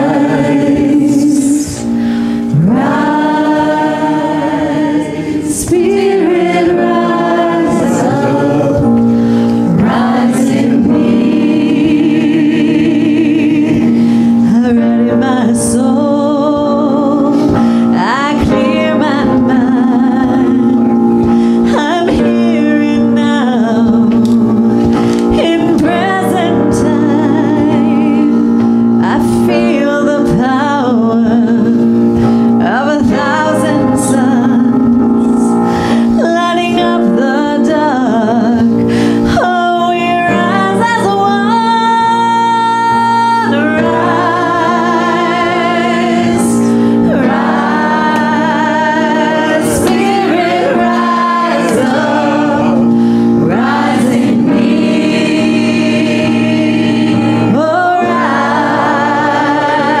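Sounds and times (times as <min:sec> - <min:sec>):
sustained chords: 0:00.0 - 0:39.3, 0:39.9 - 1:00.0
choir singing gospel song: 0:00.0 - 1:00.0.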